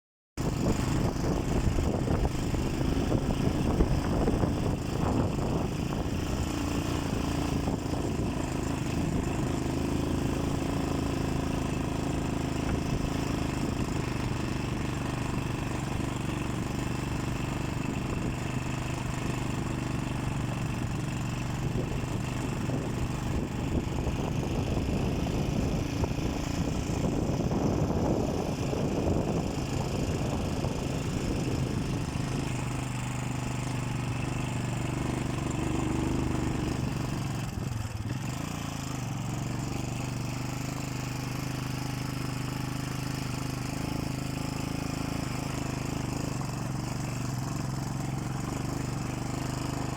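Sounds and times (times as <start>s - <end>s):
motorcycle engine running: 0.4s - 49.9s.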